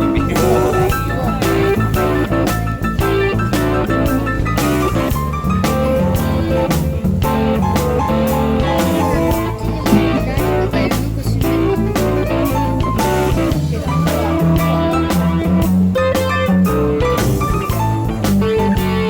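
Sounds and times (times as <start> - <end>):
guitar-led instrumental music: 0.0 - 19.0.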